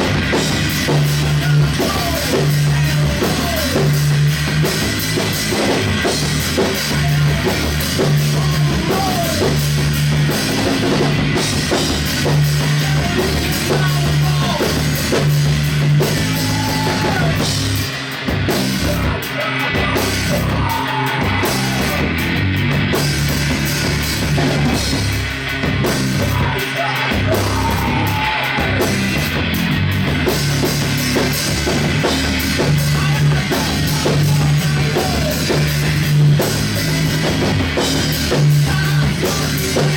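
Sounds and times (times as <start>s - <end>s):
distorted electric guitars: 0.0s - 39.9s
drum kit: 0.0s - 39.9s
pulsing bass line: 0.0s - 39.9s.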